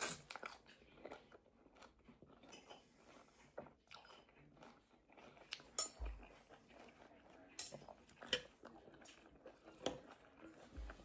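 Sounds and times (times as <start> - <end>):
chewing and biting food: 0.2 - 11.0.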